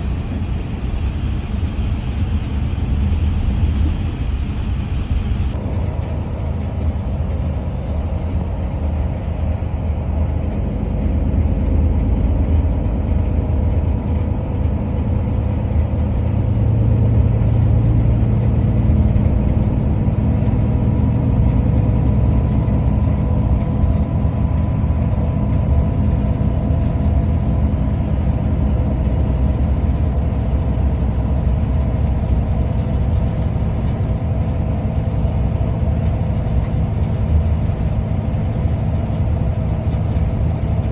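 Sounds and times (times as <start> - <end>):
vehicle engine hum and rumble: 0.0 - 40.9.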